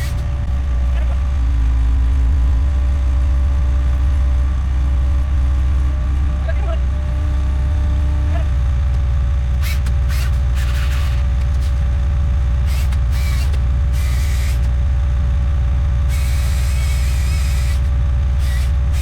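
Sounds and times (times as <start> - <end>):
constant whine: 0.0 - 19.0
diesel engine at high throttle: 0.0 - 19.0.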